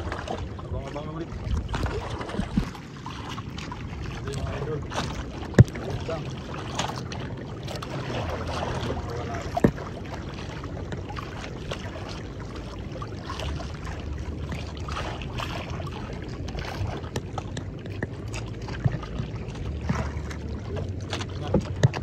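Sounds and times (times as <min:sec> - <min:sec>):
water lapping against boat hull: 0:00.0 - 0:22.0
wind rumble on microphone: 0:00.0 - 0:22.0.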